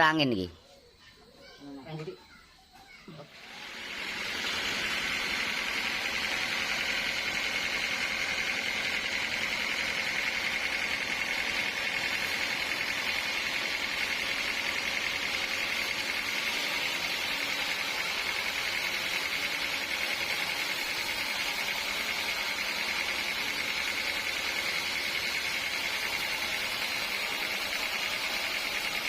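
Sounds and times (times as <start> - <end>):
sawmill saw cutting log: 3.3 - 29.0.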